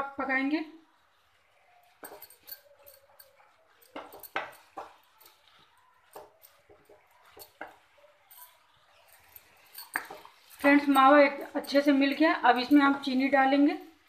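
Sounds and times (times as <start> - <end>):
wooden spatula scraping pan: 1.1 - 13.4.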